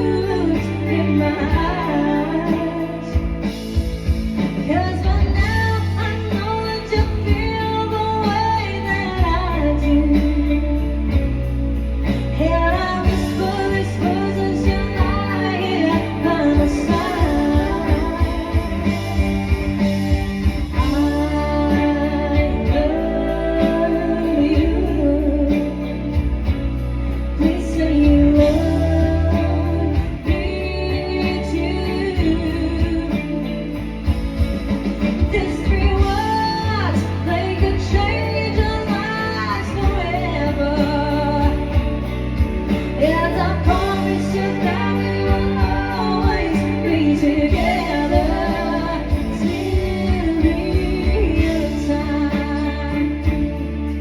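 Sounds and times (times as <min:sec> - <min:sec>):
person singing: 0:00.0 - 0:11.5, 0:12.1 - 0:54.0
bass: 0:00.0 - 0:54.0
guitar: 0:00.0 - 0:54.0.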